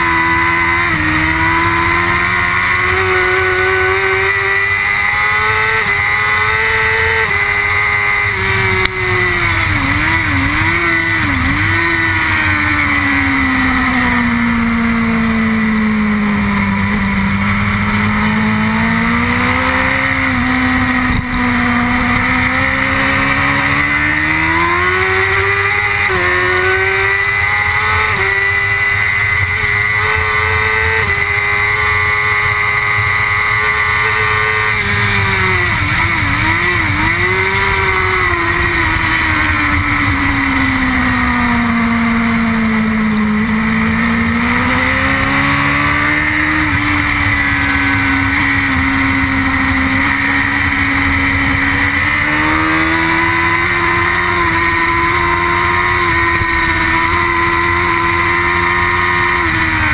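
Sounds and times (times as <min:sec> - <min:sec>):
motorcycle engine at racing speed: 0:00.0 - 0:59.9.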